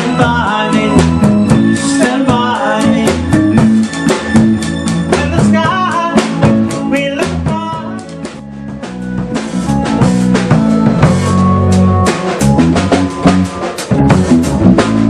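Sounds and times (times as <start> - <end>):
bass line: 0.0 - 15.0
drum kit beat: 0.0 - 15.0
melody instrument: 0.0 - 15.0.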